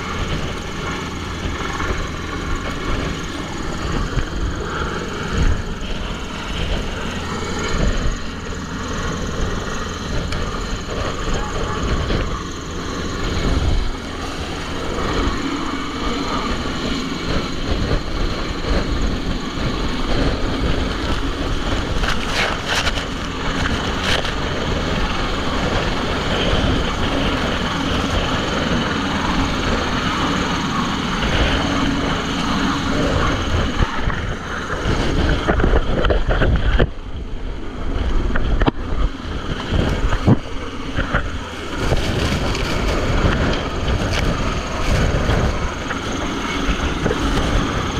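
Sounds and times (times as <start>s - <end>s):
downwash buffeting microphone: 0.0s - 47.9s
helicopter rotor and engine: 0.0s - 47.9s.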